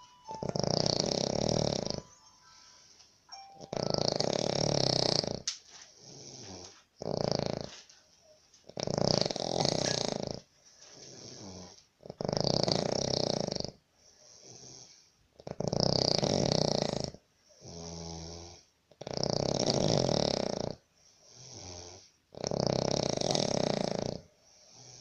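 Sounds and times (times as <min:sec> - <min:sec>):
quiet breaths: 0:00.0 - 0:15.6, 0:19.8 - 0:25.0
man snoring: 0:00.4 - 0:02.1, 0:03.8 - 0:05.4, 0:06.0 - 0:07.8, 0:08.8 - 0:10.4, 0:11.0 - 0:25.0.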